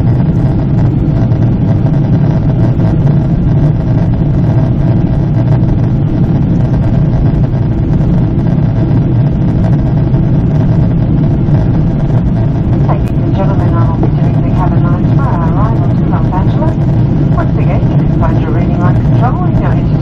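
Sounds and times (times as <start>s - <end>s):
airplane cabin engine drone: 0.0s - 20.0s.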